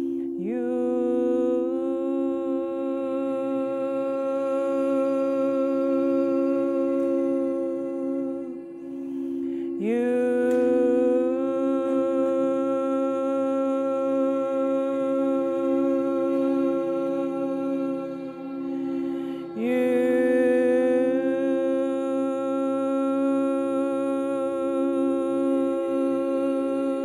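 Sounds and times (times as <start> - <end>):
steady drone: 0.0 - 27.0
voice holding long ooh notes: 0.0 - 27.0.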